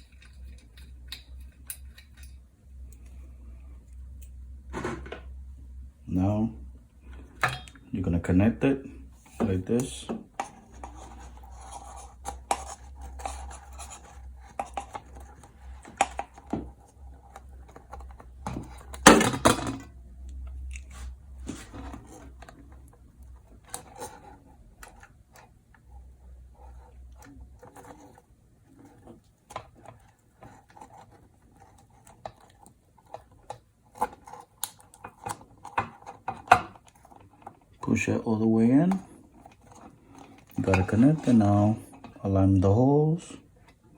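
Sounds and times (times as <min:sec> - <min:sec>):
parts clicking rattling and scraping: 0:00.0 - 0:05.3, 0:09.2 - 0:42.2
low steady hum: 0:00.0 - 0:43.9.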